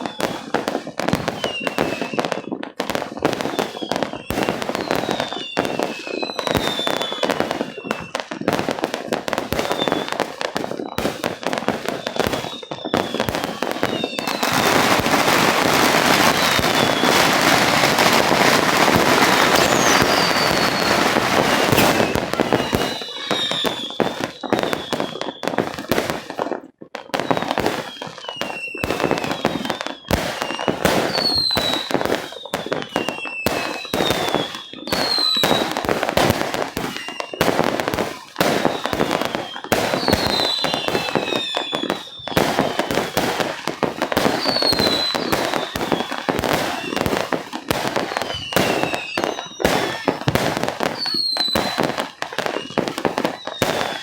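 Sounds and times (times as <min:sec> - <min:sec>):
falling firework whistles: 0:00.0 - 0:26.6, 0:27.2 - 0:54.0
fireworks bangs: 0:00.0 - 0:54.0.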